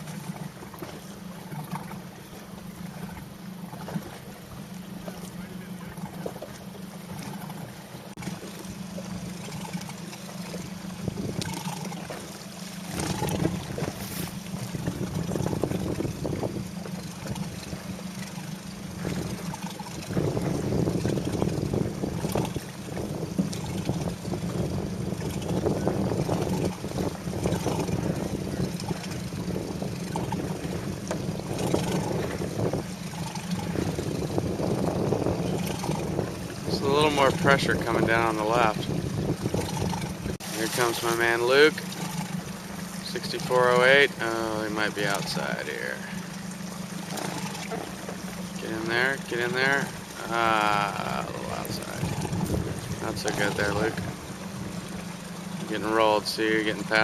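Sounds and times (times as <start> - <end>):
motorboat engine running: 0.0 - 57.0
water noise: 0.0 - 57.0
wind: 0.0 - 57.0.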